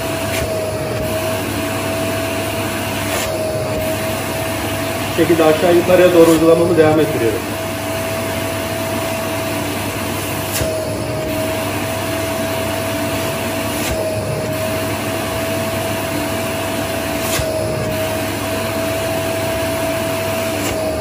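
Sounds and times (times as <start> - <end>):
vacuum cleaner whining: 0.0 - 21.0.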